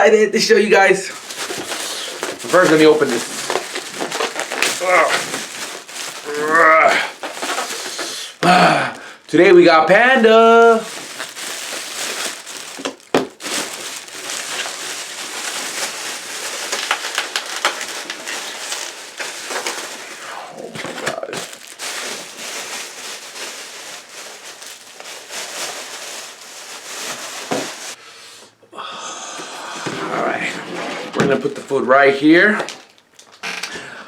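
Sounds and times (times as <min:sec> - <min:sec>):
food packaging crinkling and rustling: 0:00.8 - 0:28.0, 0:31.1 - 0:33.7.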